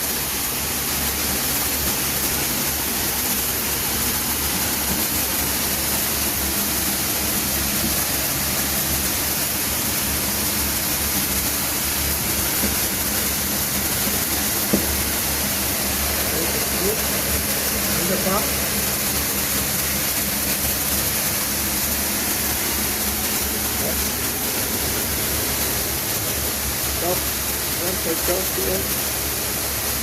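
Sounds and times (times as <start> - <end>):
motor and pump hum: 0.0 - 30.0
water jet hissing: 0.0 - 30.0.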